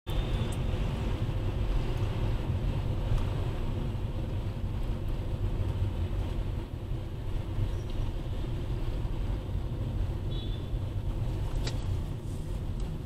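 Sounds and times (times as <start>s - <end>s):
car cabin road and engine rumble: 0.1s - 13.0s.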